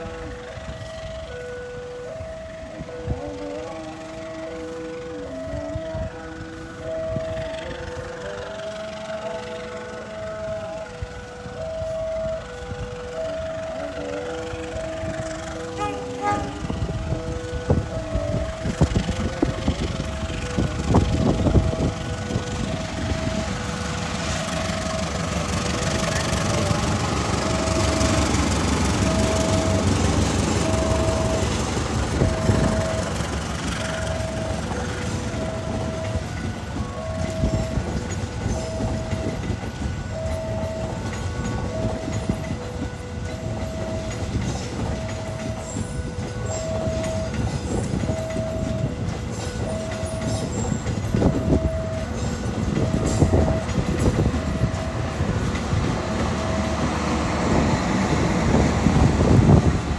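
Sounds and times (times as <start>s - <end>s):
crossing signal two-note tone: 0.0s - 57.3s
train wheels rumbling and clacking: 0.0s - 59.9s.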